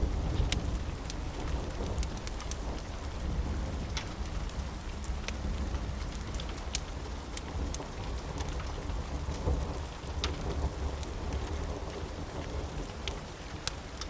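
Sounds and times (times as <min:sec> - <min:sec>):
rolling thunder: 0:00.0 - 0:13.2
steady rain: 0:00.0 - 0:14.0
wood fire crackling: 0:00.0 - 0:14.0.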